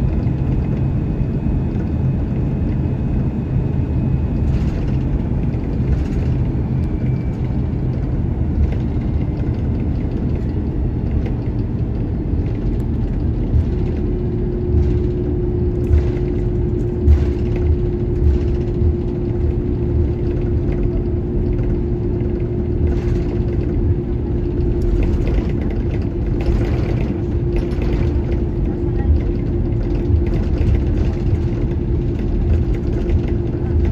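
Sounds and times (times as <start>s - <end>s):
jet engine low rumble: 0.0s - 33.9s
steady hum: 0.0s - 33.9s.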